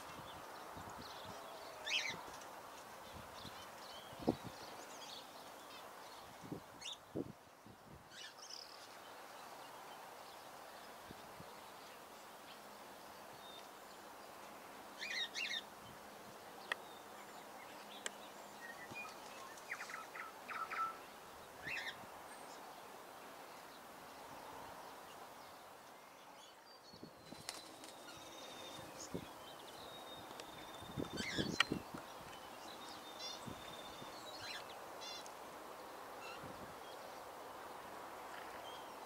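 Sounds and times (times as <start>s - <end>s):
birds chirping: 0.0s - 7.3s, 8.1s - 22.8s, 23.4s - 37.3s
faint outdoor hiss: 0.0s - 39.0s.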